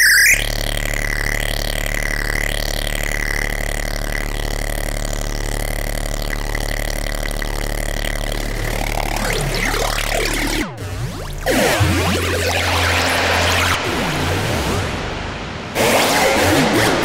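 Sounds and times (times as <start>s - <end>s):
steady high synthesizer tone: 0.0s - 16.2s
buzzing low synthesizer drone: 0.0s - 17.0s.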